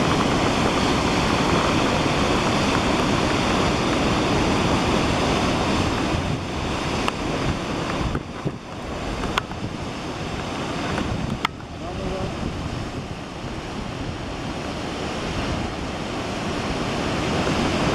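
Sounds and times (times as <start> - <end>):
waterfall rushing: 0.0 - 17.9
wind rumbling on microphone: 0.0 - 17.9.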